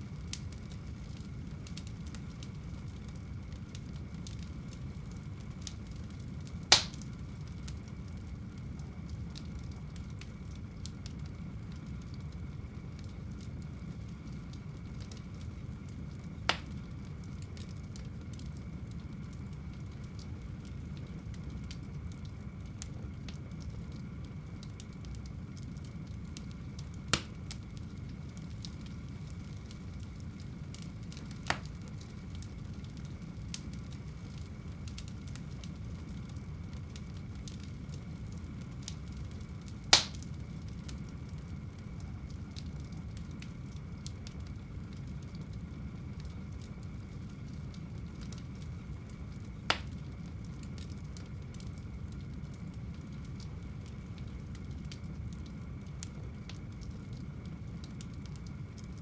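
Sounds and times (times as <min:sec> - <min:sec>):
fire rumbling: 0:00.0 - 0:59.0
burning wood popping: 0:00.1 - 0:59.0.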